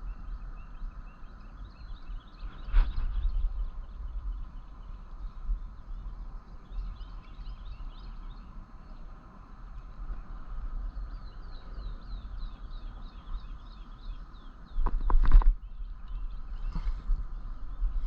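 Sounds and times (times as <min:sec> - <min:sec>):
small birds chirping: 0:00.0 - 0:18.0
steady low rumble: 0:01.3 - 0:18.0.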